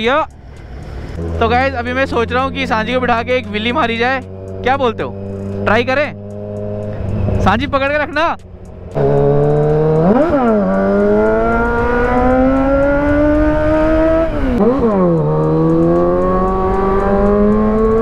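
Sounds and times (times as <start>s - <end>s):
motorcycle engine accelerating: 1.0s - 18.0s.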